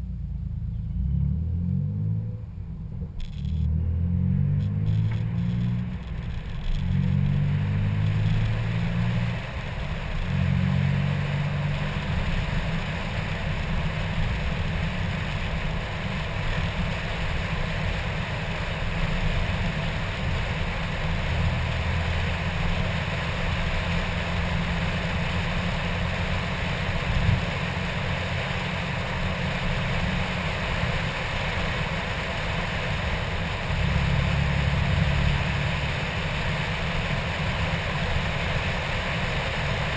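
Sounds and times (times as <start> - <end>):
car engine at full throttle: 0.0 - 39.9
wind and road rush: 0.0 - 39.9.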